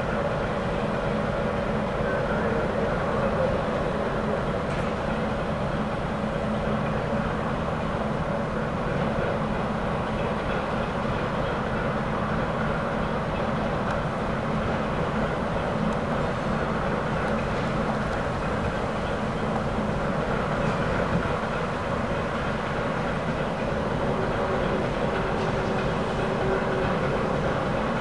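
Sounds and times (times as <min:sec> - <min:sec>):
train diesel engine droning: 0:00.0 - 0:28.0.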